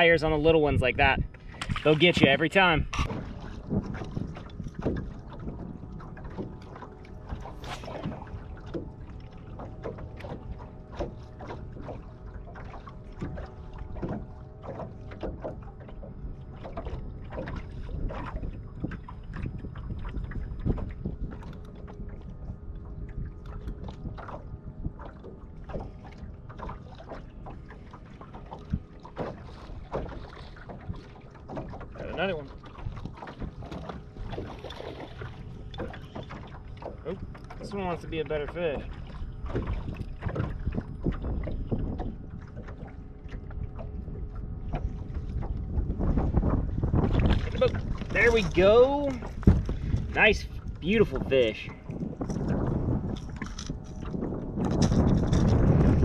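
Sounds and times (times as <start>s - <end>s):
low rumble of wind and water: 0.0s - 56.0s.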